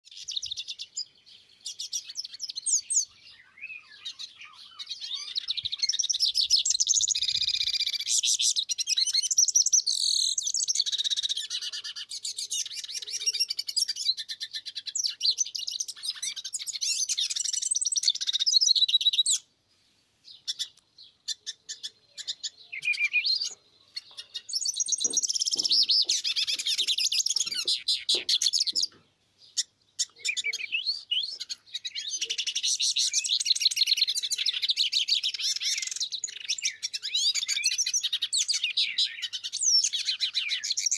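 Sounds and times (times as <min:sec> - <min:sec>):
birds singing high twittering: 0:00.0 - 0:19.5, 0:20.2 - 0:40.9.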